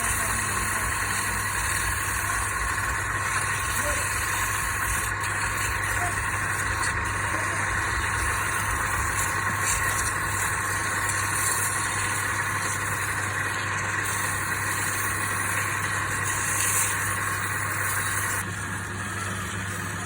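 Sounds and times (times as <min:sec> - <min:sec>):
hiss of cutting: 0:00.0 - 0:18.4
wood lathe motor hum: 0:00.0 - 0:20.0.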